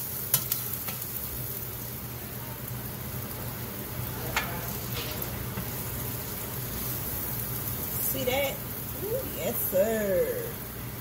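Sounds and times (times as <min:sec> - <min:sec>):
low steady hum: 0:00.0 - 0:11.0
tortilla sizzling on griddle: 0:00.0 - 0:11.0.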